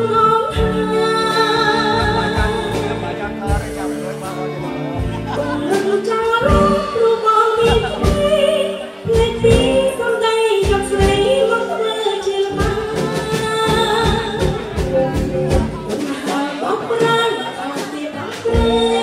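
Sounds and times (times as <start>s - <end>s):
woman singing into microphone: 0.0s - 3.2s, 5.4s - 19.0s
musical accompaniment with steady beat: 0.0s - 19.0s.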